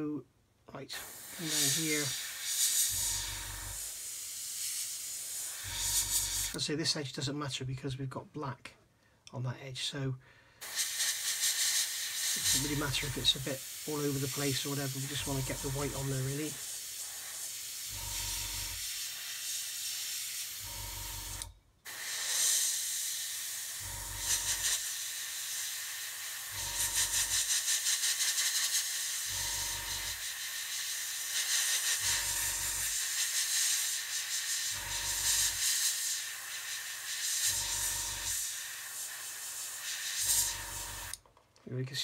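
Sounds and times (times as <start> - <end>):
airbrush spraying hiss: 0.9 - 6.6, 10.6 - 41.2.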